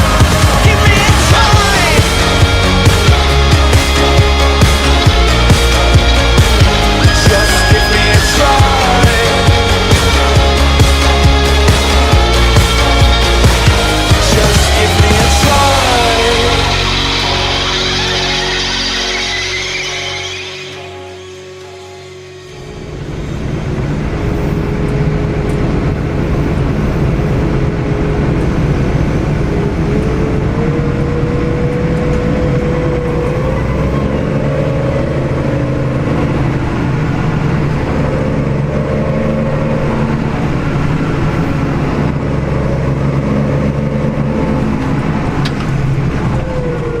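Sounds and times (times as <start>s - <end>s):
diesel machinery engine drone: 0.0s - 47.0s.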